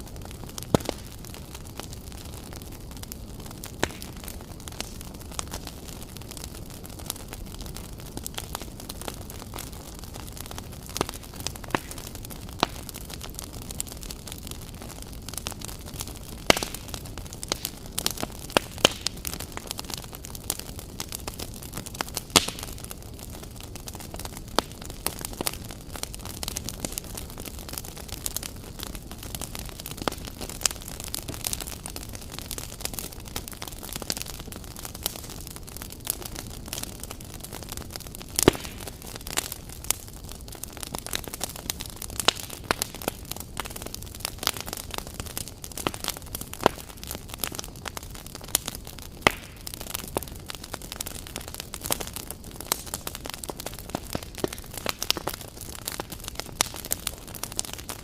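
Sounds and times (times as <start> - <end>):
fire crackling and popping: 0.0 - 58.0
low rush of flames: 0.0 - 58.0.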